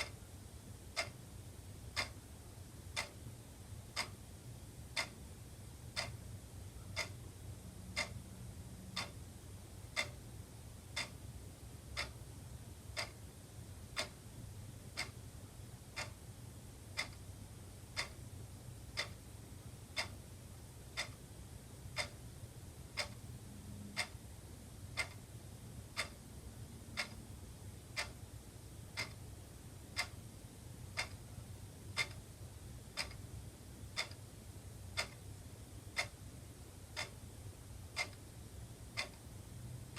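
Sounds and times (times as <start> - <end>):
wall clock ticking: 0.0 - 5.2, 5.8 - 7.3, 7.9 - 15.2, 15.8 - 16.2, 16.8 - 28.2, 28.9 - 39.9
faint low hum: 0.0 - 39.9.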